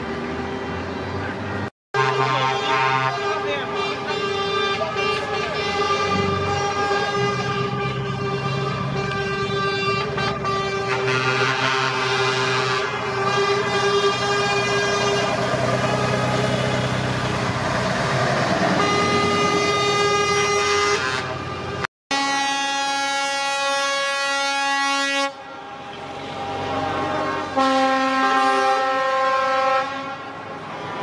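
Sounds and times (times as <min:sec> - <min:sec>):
truck engines running: 0:00.0 - 0:31.0
truck air horns blasting: 0:01.9 - 0:17.5, 0:18.6 - 0:30.5.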